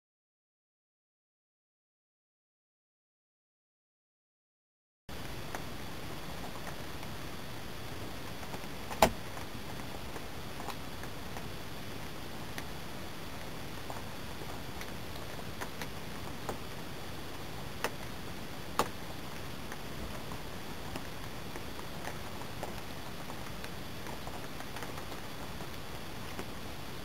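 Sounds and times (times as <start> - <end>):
steady hiss: 5.1 - 27.0.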